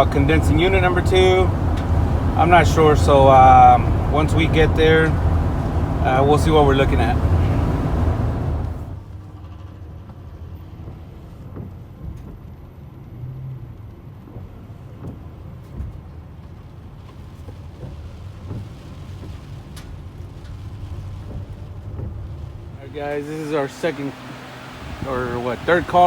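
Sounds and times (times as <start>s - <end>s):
engine and road noise: 0.0s - 26.0s.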